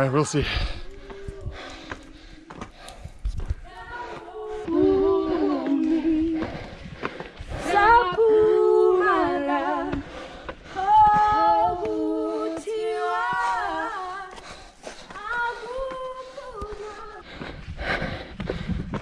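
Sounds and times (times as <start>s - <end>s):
unaccompanied voices singing: 0.0s - 17.5s.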